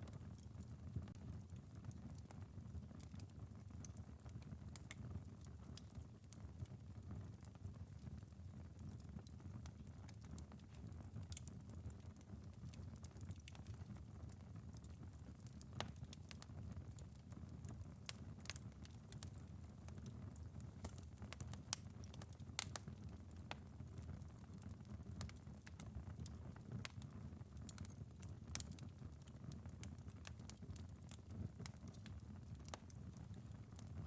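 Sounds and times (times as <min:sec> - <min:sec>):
wood fire crackling: 0:00.0 - 0:34.0
rain pattering on a window: 0:00.1 - 0:34.0.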